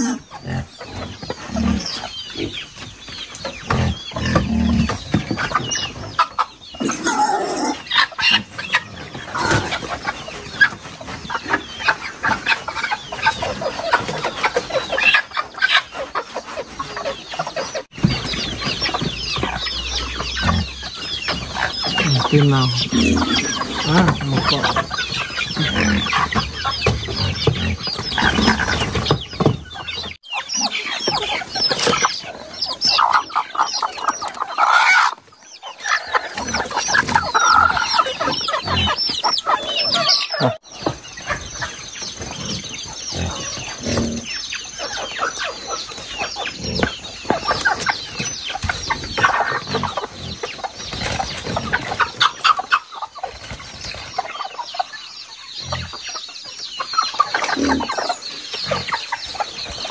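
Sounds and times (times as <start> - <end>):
chickens clucking and calling: 0.0 - 59.9.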